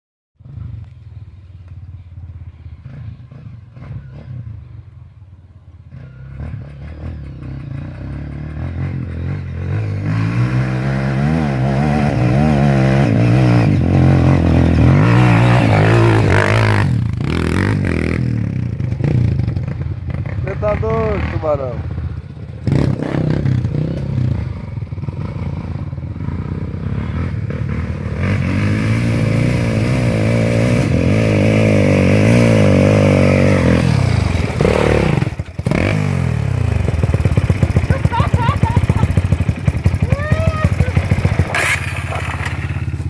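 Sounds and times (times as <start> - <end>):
motorcycle engine revving: 0.4 - 43.0.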